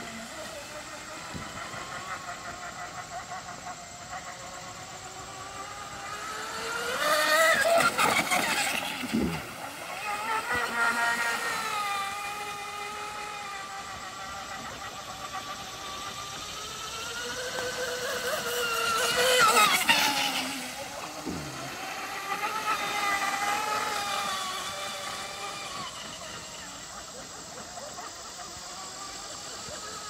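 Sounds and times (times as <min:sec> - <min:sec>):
model speedboat motor whining: 0:00.0 - 0:30.0.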